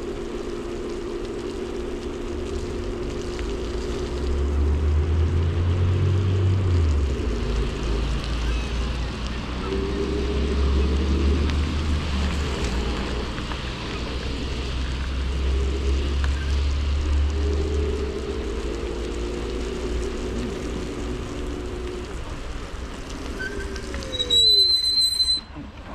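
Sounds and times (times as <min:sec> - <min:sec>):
scooter wind and tyre rumble: 0:00.0 - 0:25.9.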